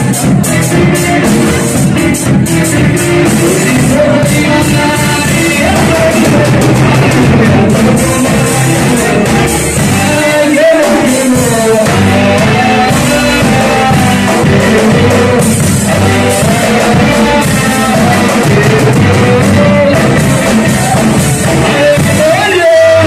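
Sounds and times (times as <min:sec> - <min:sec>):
drum kit: 0:00.0 - 0:23.0
keyboard: 0:00.0 - 0:23.0
man singing into microphone: 0:00.0 - 0:23.0.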